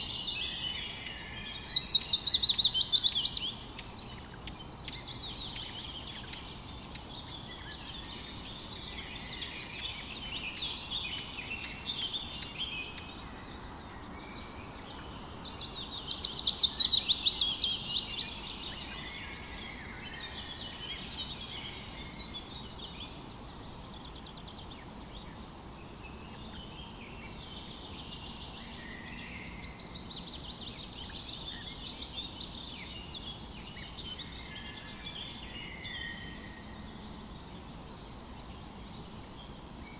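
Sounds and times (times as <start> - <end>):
songbirds singing and chirping: 0.0 - 39.9
steady background hiss: 0.0 - 39.9.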